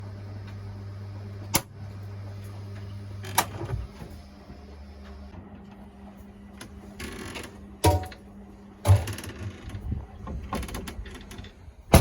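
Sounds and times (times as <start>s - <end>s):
washing machine hum: 0.0s - 12.0s.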